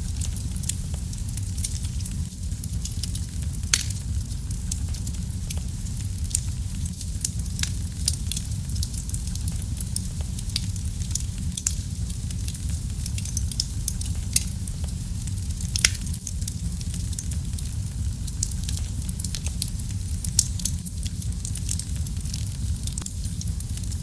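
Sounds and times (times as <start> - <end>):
fireplace fire crackling: 0.0 - 24.0.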